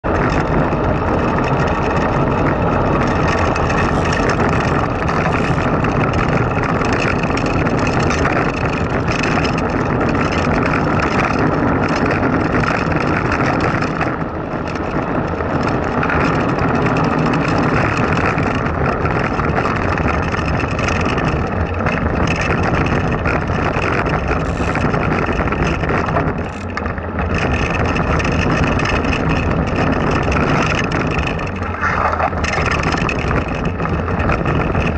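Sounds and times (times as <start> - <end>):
wheels rumbling on asphalt: 0.0 - 34.9
wind on microphone: 0.0 - 34.9.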